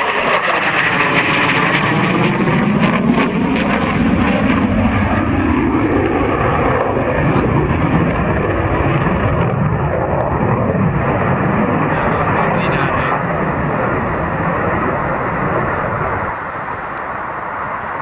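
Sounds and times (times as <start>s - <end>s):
aircraft engine roaring: 0.0s - 18.0s.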